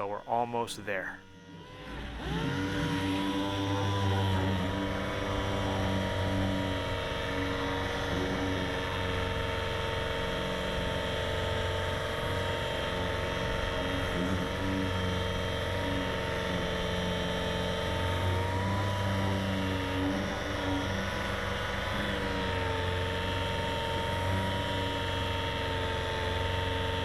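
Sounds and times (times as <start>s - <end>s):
power sander whining: 1.4s - 27.0s.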